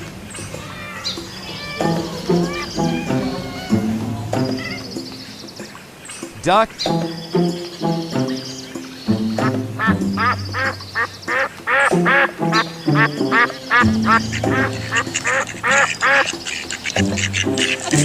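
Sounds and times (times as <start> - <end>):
background music: 0.0 - 18.0
ducks quacking: 0.0 - 18.0.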